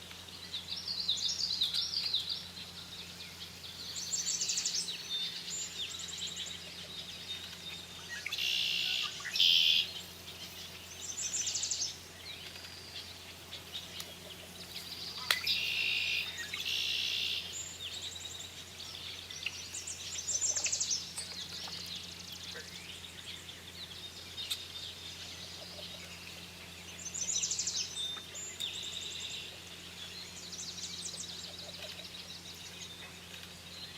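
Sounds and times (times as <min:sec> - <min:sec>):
birds chirping: 0:00.0 - 0:33.9
steady low hum: 0:00.0 - 0:33.9.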